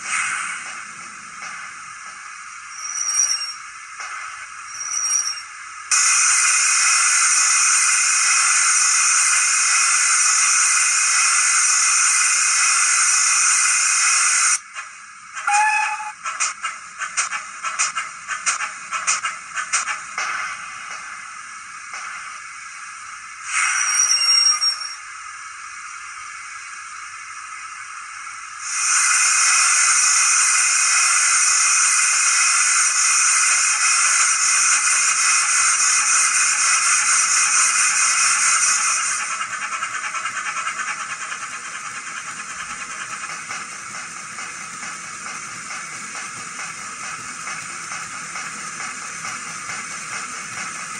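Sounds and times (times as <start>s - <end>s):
steam hiss: 0.0s - 50.9s.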